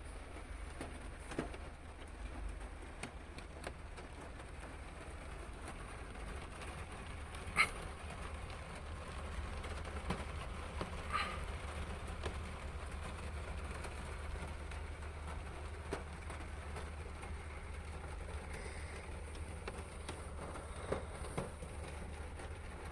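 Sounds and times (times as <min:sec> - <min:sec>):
rain hiss: 0:00.0 - 0:22.9.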